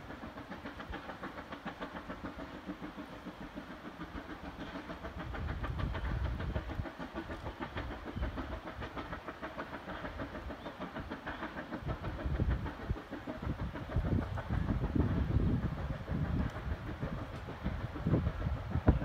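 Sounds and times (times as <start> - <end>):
steam locomotive exhaust chuffs: 0.0 - 19.0.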